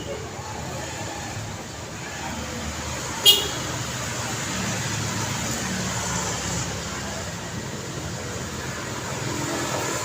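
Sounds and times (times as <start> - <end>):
cars and motorcycles passing: 0.0 - 10.0
engine hum over road noise: 0.0 - 10.0.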